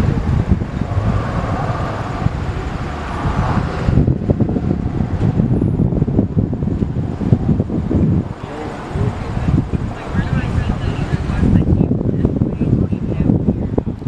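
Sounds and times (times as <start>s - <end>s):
motor vehicle running: 0.0s - 14.0s
wind buffeting microphone: 0.0s - 14.0s.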